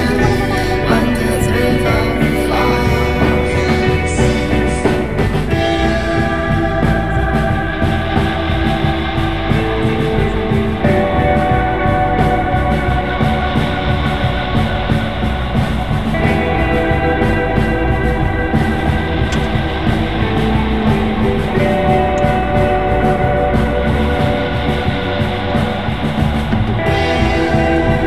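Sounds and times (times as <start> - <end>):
rock music with guitar chords: 0.0 - 28.0.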